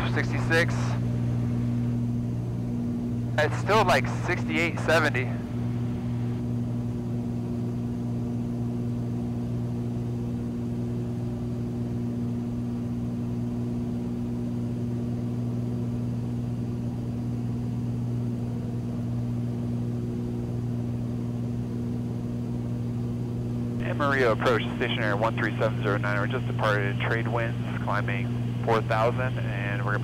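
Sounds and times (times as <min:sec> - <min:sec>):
airplane engine drone in cabin: 0:00.0 - 0:30.0.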